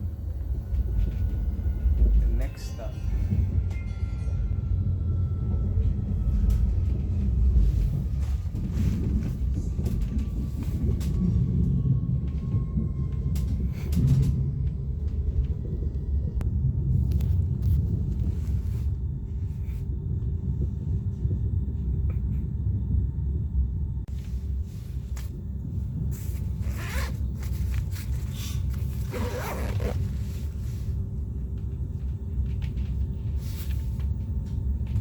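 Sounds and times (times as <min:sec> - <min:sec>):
train rumbling inside carriage: 0:00.0 - 0:35.0.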